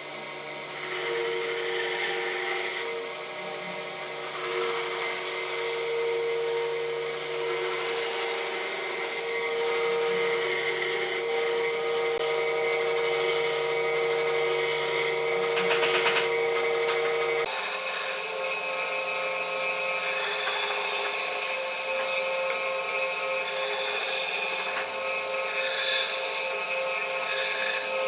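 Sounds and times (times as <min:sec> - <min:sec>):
power tool grinding wood: 0:00.0 - 0:28.0.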